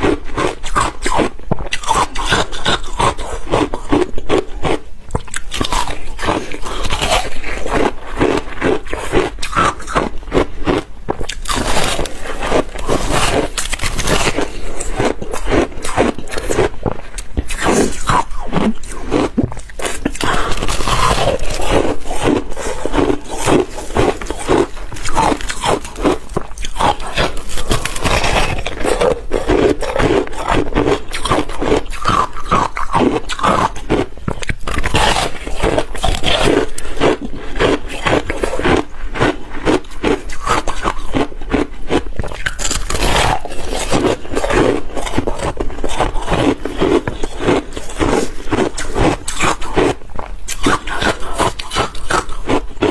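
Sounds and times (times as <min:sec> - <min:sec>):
ice crunching while chewed: 0:00.0 - 0:52.9.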